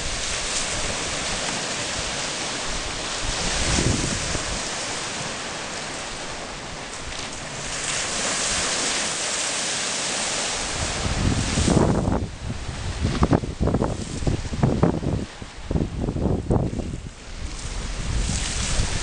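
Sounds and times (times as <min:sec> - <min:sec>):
wind buffeting microphone: 0:00.0 - 0:09.0, 0:10.2 - 0:19.0
sea waves washing onto beach: 0:00.0 - 0:19.0.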